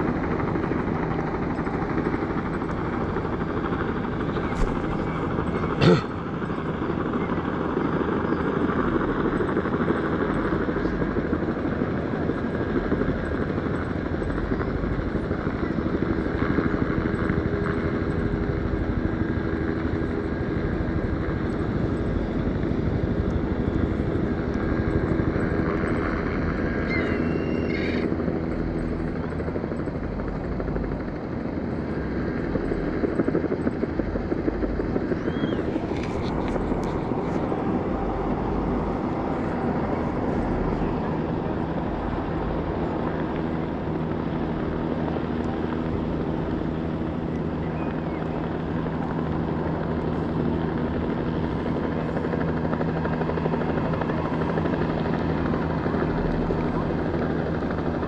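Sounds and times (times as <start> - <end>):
low engine drone: 0.0 - 11.3, 12.9 - 58.0
constant noisy rush: 0.0 - 58.0.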